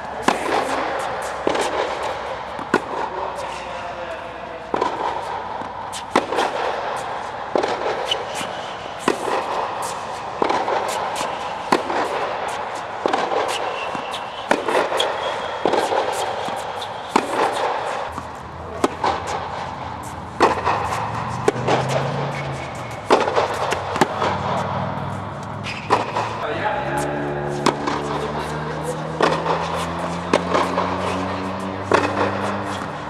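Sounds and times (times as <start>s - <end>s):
racket striking tennis ball: 0.0s - 33.0s
tennis ball bouncing: 0.0s - 33.0s.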